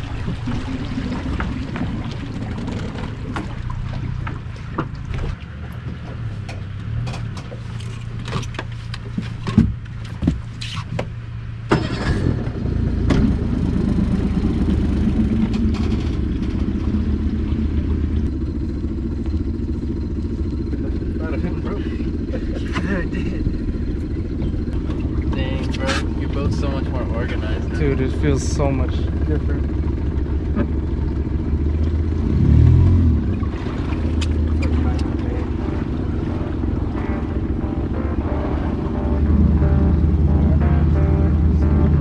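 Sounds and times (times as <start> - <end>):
engine idling hum: 0.0 - 42.0
engine rumble: 0.0 - 42.0.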